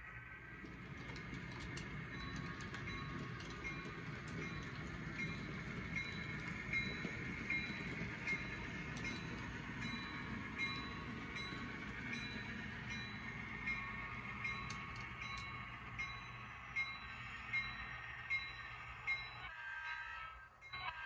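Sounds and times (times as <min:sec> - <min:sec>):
model train rumbling on track: 0:00.0 - 0:21.0
wheels clicking over rail joints: 0:00.1 - 0:18.4.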